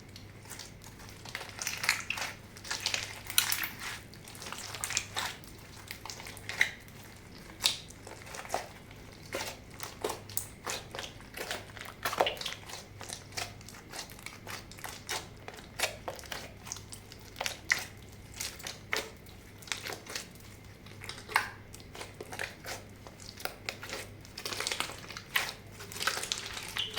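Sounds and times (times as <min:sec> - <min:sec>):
slime popping and crackling: 0:00.5 - 0:20.3, 0:20.9 - 0:26.9.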